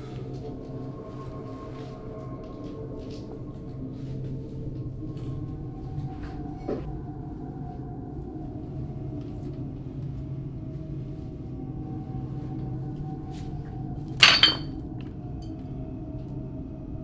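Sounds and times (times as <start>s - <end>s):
low ambient drone: 0.0s - 17.0s.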